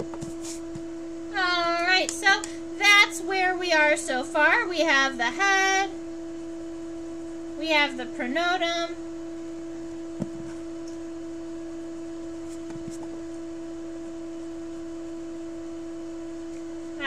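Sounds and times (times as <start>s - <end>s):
high-pitched hum: 0.0s - 17.0s.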